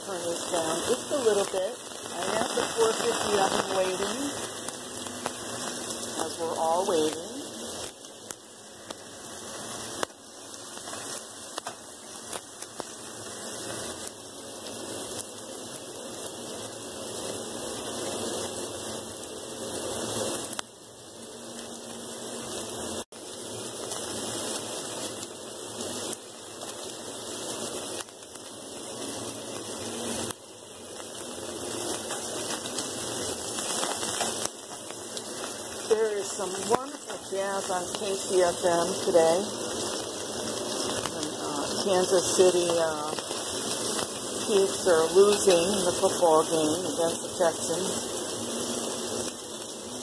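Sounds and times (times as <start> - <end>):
steak sizzling in a frying pan: 0.0 - 50.0.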